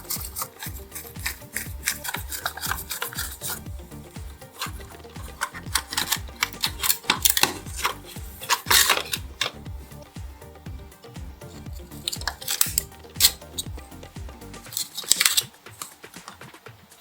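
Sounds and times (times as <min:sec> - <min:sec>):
rasping abrasive strokes: 0:00.0 - 0:16.7
music with steady beat: 0:00.0 - 0:17.0.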